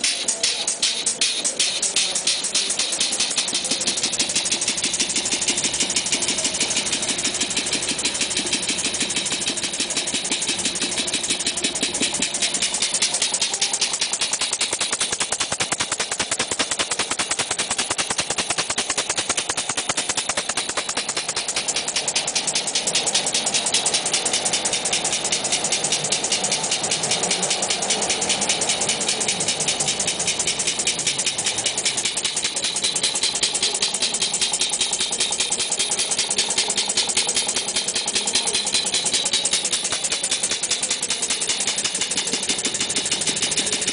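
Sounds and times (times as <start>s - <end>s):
steam engine running on compressed air: 0.0s - 43.9s.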